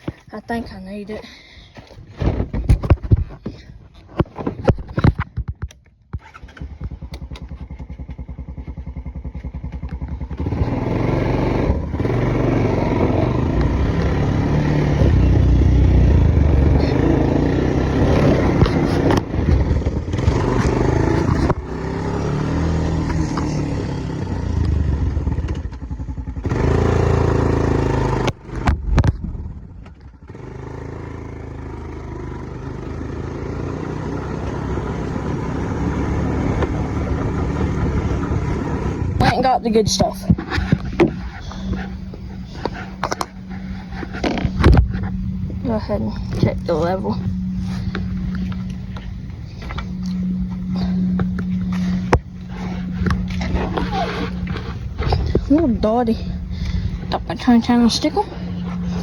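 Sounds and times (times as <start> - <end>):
small vehicle engine revving: 1.8 - 59.0.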